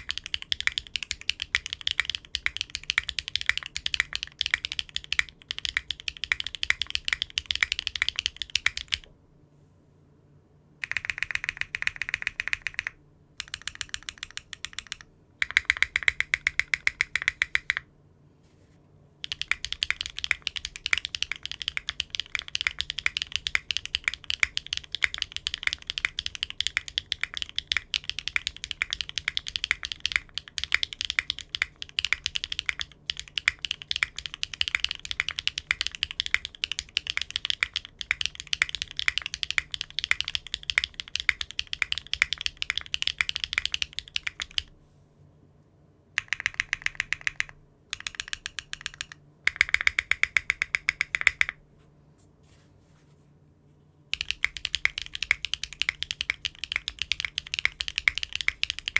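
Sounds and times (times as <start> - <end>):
mechanical keyboard typing: 0.0 - 9.1, 10.8 - 17.9, 19.2 - 44.7, 46.2 - 51.6, 54.1 - 58.9.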